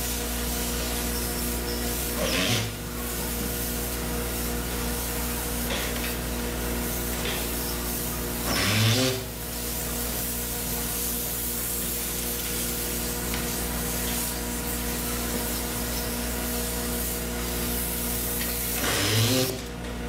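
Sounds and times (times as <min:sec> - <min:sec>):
spray gun hissing: 0:00.0 - 0:19.6.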